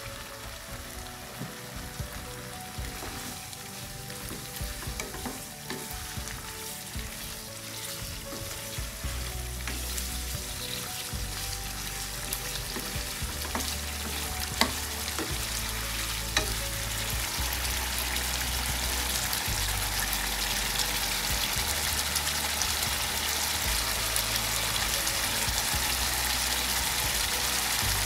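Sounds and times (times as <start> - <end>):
chicken frying in a wok: 0.0 - 28.0.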